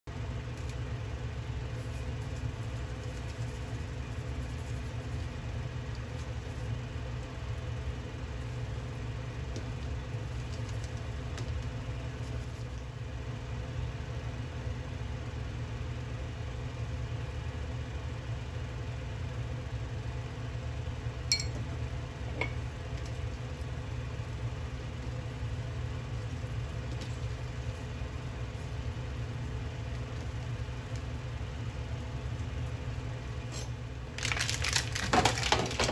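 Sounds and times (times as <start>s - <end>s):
low machine hum: 0.1s - 35.9s.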